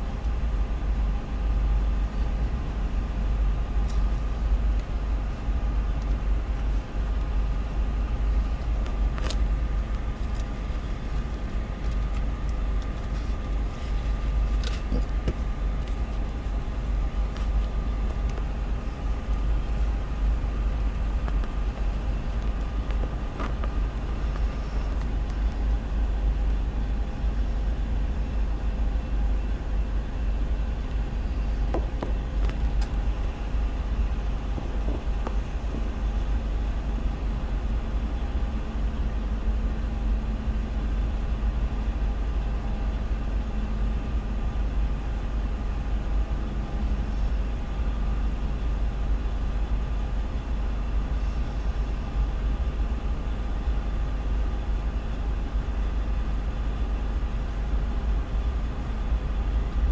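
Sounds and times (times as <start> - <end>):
muffled train rumble: 0.0 - 59.9.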